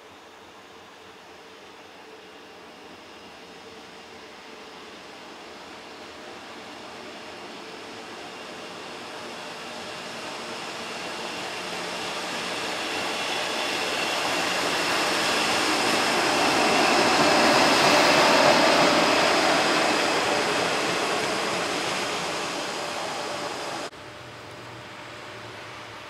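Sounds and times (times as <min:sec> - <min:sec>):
electric locomotive passing: 0:00.4 - 0:26.0.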